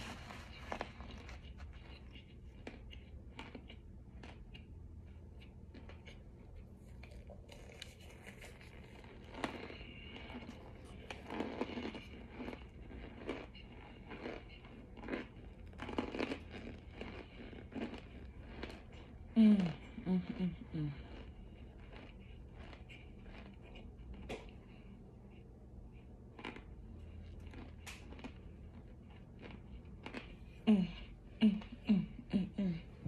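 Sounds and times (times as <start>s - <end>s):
biting and chewing crunchy food: 0.0s - 31.2s.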